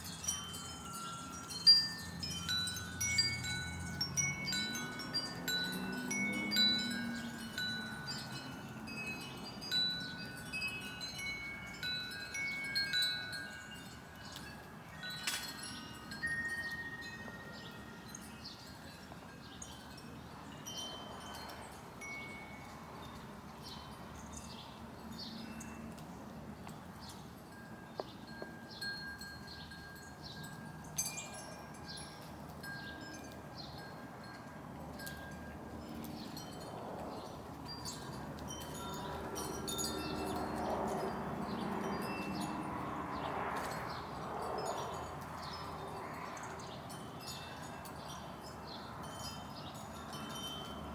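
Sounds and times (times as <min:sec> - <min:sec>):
wind chimes ringing: 0:00.0 - 0:50.9.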